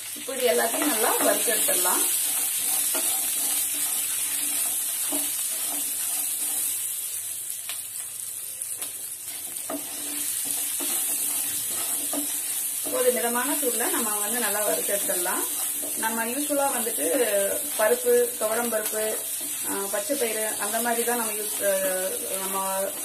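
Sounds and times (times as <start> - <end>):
food sizzling in a pan: 0.0 - 23.0
spatula scraping a pan: 0.6 - 7.2, 9.3 - 23.0.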